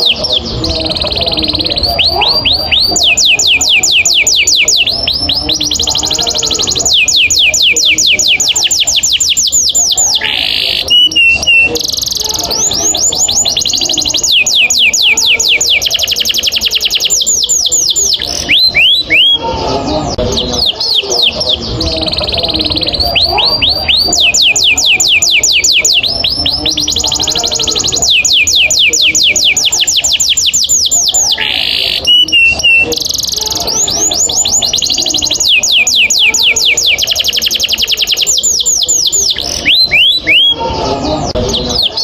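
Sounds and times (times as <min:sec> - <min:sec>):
canary singing trills: 0:00.0 - 0:42.0.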